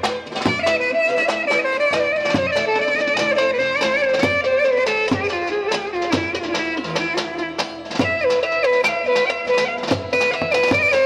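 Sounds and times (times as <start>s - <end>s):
drums beating: 0.0s - 11.0s
ornamented lead melody: 0.0s - 11.0s.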